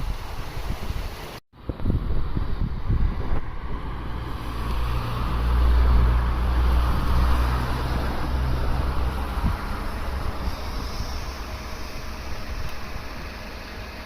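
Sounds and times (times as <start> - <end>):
strong wind buffeting microphone: 0.0 - 13.9.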